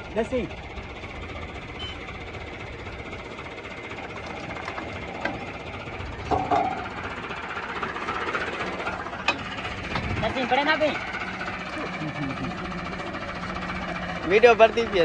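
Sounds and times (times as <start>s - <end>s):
tractor engine and thresher clatter: 0.0s - 15.0s.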